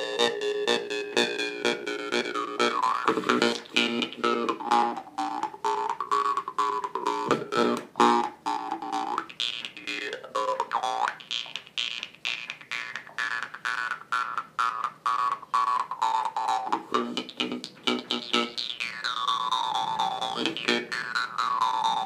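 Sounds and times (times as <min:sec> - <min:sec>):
jew's harp twanging rhythm: 0:00.0 - 0:22.0.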